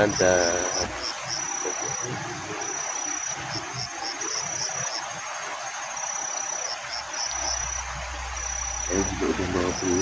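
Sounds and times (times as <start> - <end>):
background hiss: 0.0 - 10.0
insect chirping: 0.0 - 10.0.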